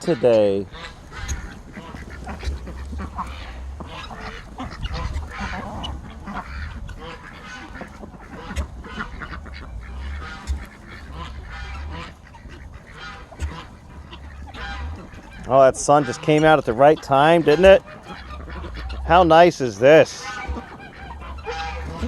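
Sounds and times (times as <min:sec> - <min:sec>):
geese honking: 0:00.0 - 0:22.0
poultry: 0:00.0 - 0:22.0
low rumble: 0:00.6 - 0:15.8, 0:16.6 - 0:22.0.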